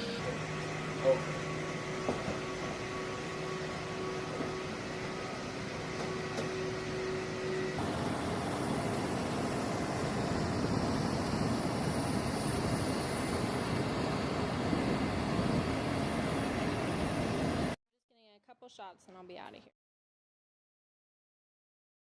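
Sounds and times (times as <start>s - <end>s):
faint high whine: 0.0s - 17.8s
jet engines rushing: 0.0s - 17.8s.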